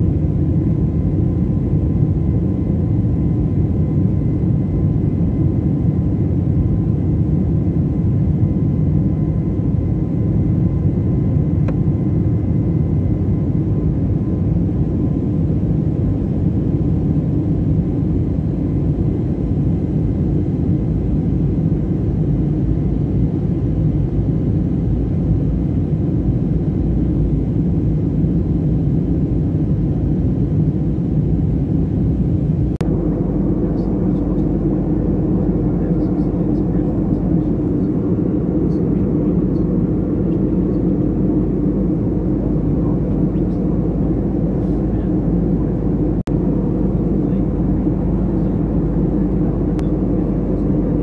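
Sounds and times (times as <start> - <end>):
airliner engines rumbling: 0.0 - 51.0
faint steady whine: 0.0 - 51.0.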